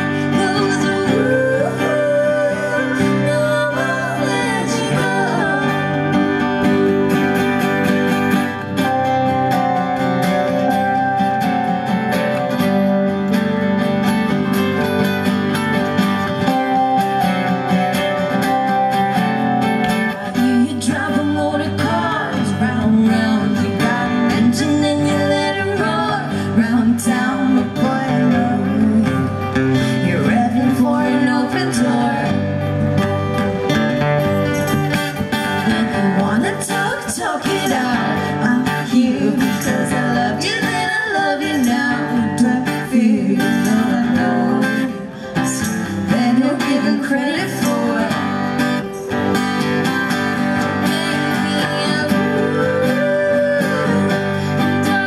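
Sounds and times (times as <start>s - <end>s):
person singing: 0.0s - 12.8s, 18.4s - 33.7s, 34.4s - 55.0s
strummed acoustic guitar: 0.0s - 55.0s.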